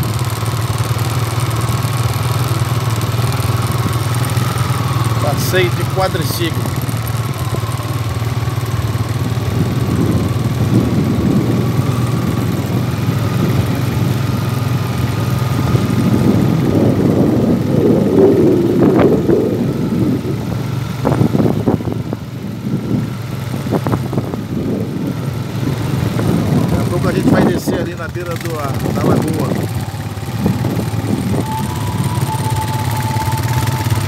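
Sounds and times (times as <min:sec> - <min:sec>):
quad bike engine running: 0:00.0 - 0:34.0.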